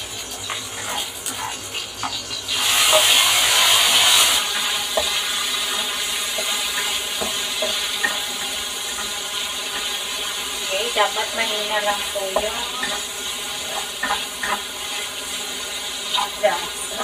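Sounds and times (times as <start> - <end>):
spatula scraping a pan: 0.0 - 10.6, 11.3 - 16.6
meat sizzling in a pan: 0.0 - 17.0.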